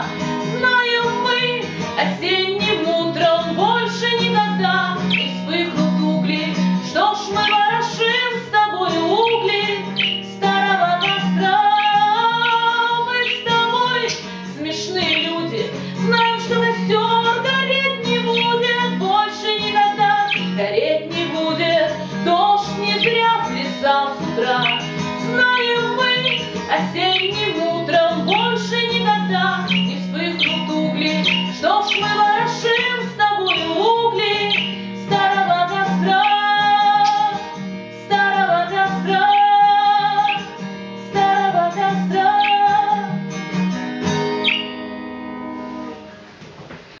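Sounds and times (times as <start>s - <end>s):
acoustic guitar plucked and strummed: 0.0s - 46.9s.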